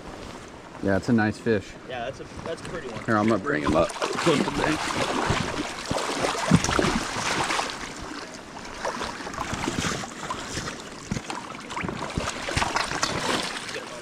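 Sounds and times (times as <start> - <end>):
river water flowing: 0.0 - 14.0
splashes and knocks: 2.4 - 14.0.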